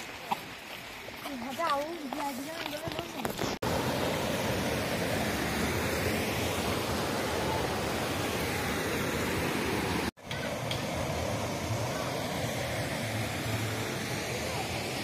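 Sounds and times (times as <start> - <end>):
stream rushing over stones: 0.0 - 15.0.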